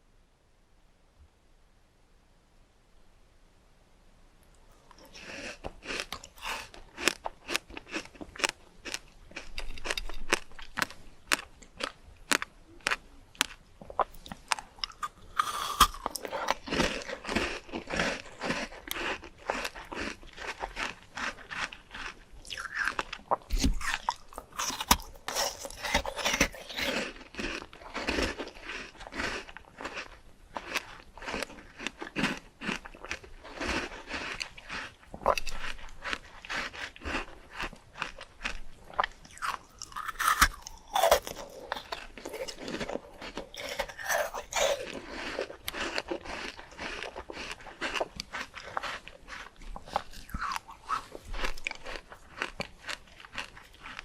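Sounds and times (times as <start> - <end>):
crunchy fruit bites and chewing: 4.9 - 54.0.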